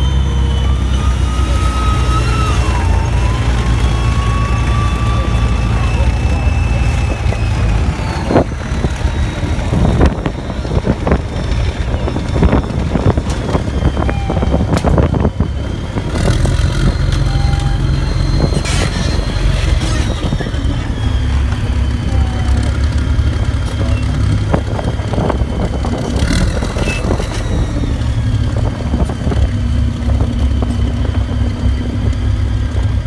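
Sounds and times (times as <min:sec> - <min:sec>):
tank engine rumble: 0:00.0 - 0:33.0.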